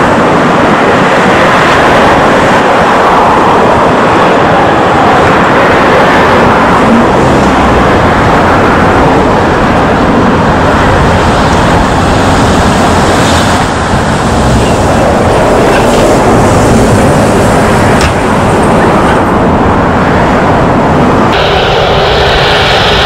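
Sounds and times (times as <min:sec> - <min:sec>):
airliner jet engines landing: 0:00.0 - 0:23.0.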